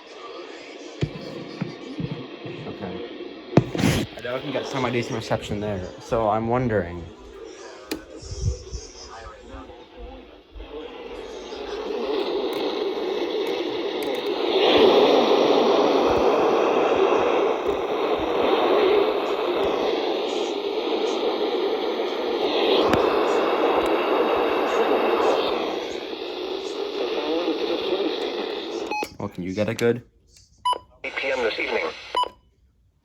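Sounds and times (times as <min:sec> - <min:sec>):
radio static hiss: 0:00.0 - 0:32.3.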